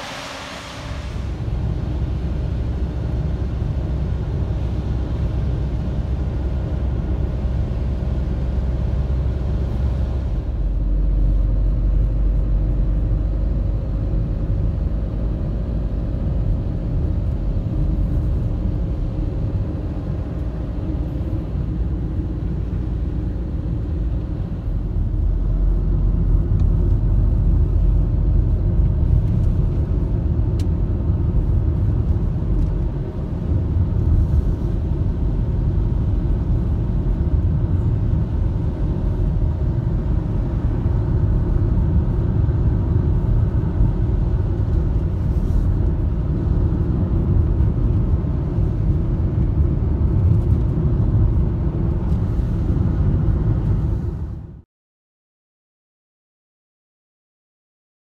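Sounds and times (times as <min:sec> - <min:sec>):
engine hum: 0:00.0 - 0:54.6
vehicle driving rumble: 0:00.0 - 0:54.6.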